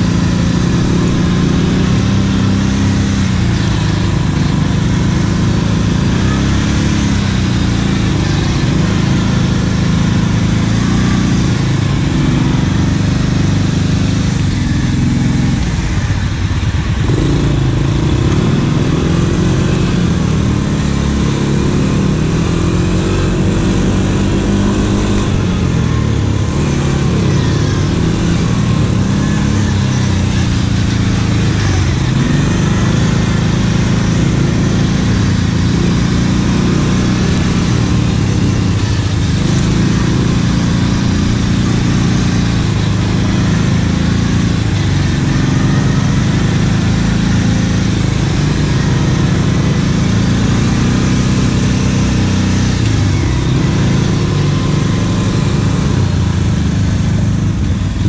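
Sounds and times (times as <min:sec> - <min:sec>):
atv engine revving: 0:00.0 - 0:58.0
steady rushing noise: 0:00.0 - 0:58.0.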